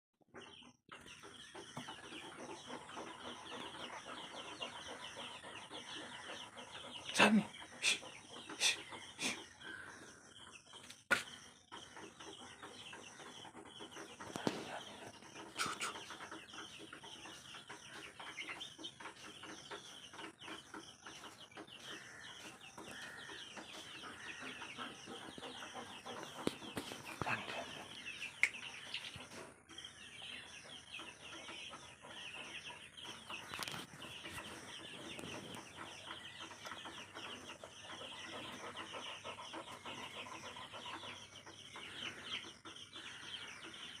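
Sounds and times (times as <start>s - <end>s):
birds chirping: 0.3s - 44.0s.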